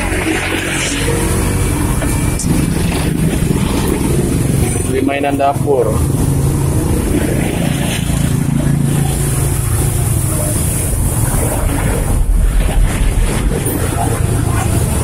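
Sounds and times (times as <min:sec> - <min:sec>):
low buffeting: 0:00.0 - 0:15.0
low mechanical rumble: 0:00.0 - 0:15.0.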